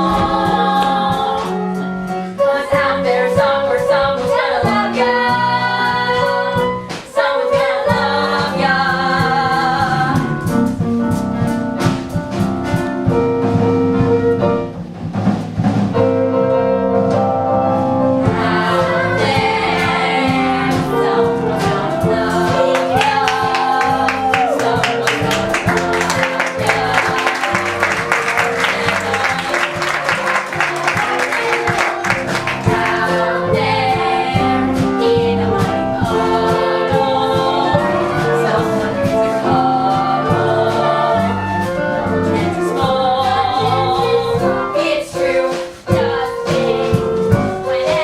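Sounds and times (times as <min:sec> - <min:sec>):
instrumental accompaniment with beat: 0:00.0 - 0:48.0.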